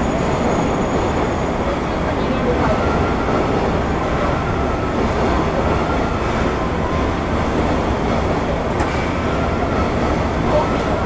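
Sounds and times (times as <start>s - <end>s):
train car rumble and hum: 0.0s - 11.0s.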